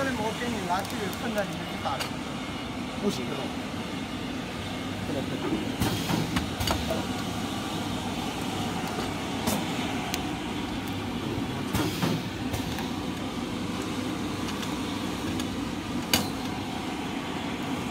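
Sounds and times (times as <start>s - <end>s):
shrink wrap machine running: 0.0s - 2.3s, 5.1s - 17.9s.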